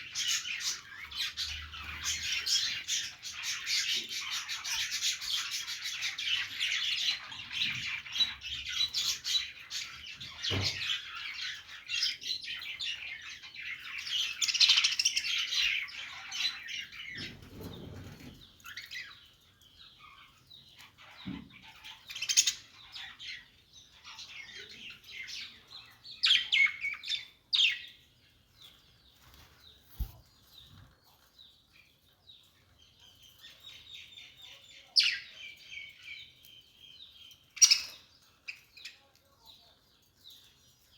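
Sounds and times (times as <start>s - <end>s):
parrots chirping and chattering: 0.0s - 40.9s.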